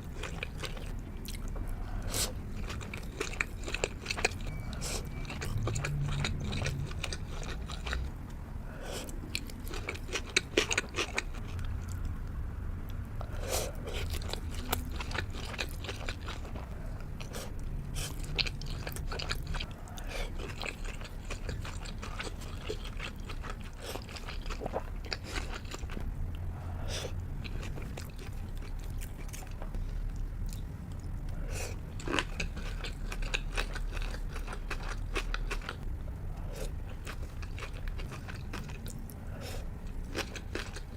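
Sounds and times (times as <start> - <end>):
chewing and biting food: 0.0 - 8.4, 9.0 - 12.2, 13.7 - 26.4, 27.2 - 40.9
steady low hum: 0.0 - 40.9.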